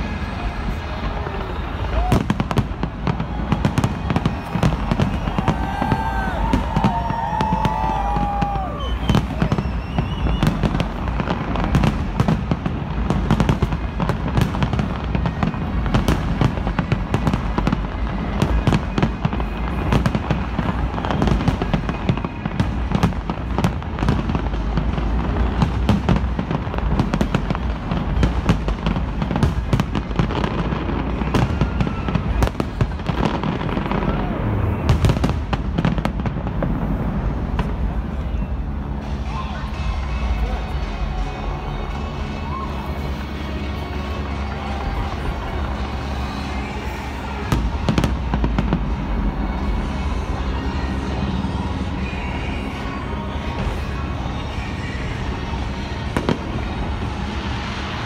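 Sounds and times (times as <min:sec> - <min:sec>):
fireworks cracks and bangs: 0:00.0 - 0:58.0.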